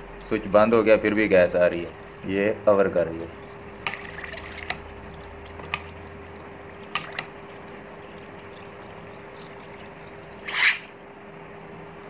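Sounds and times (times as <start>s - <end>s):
water trickling and bubbling: 0.0s - 12.0s.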